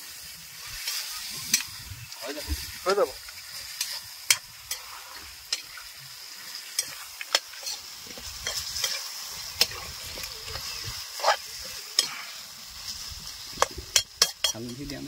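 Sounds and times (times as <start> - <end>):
chicken sizzling in a pan: 0.0 - 15.0
metal spoon scraping a pan: 0.6 - 14.9.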